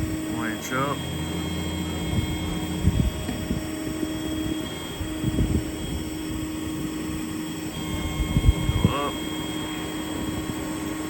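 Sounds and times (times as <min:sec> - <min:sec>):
diesel engine running: 0:00.0 - 0:11.0
hydraulic winch whine: 0:00.0 - 0:11.0.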